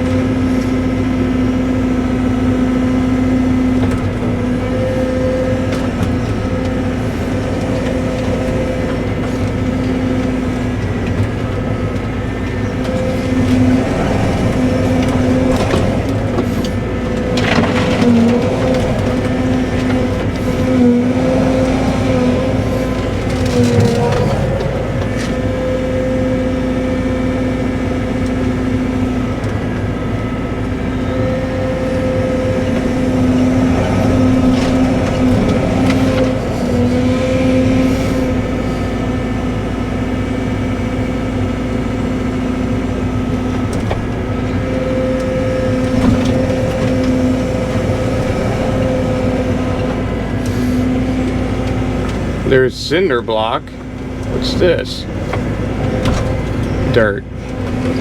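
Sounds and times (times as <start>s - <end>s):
excavator engine and hydraulics: 0.0s - 58.0s.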